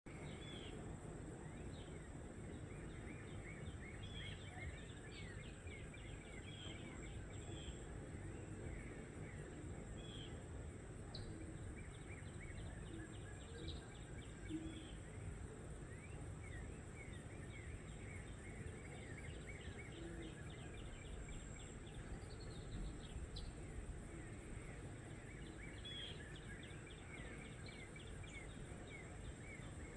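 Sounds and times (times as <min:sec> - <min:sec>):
small birds singing: 0:00.1 - 0:29.9.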